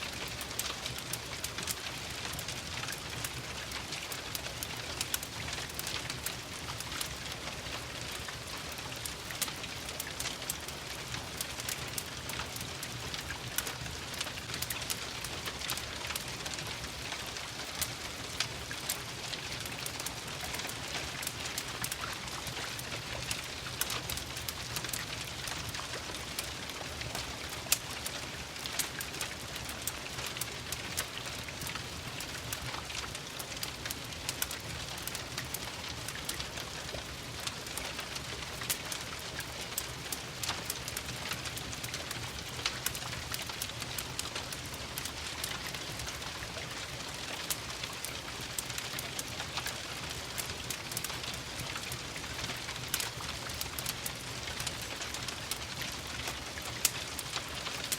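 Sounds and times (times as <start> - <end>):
steady rain falling: 0.0 - 57.9
wood fire crackling and popping: 0.0 - 57.9.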